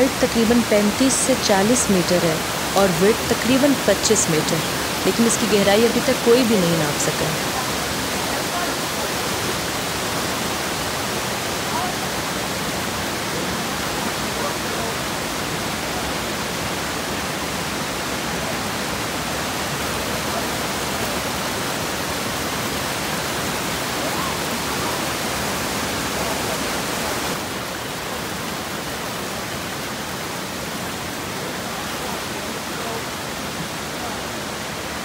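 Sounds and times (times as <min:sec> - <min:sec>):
stream rushing over rocks: 0:00.0 - 0:35.0.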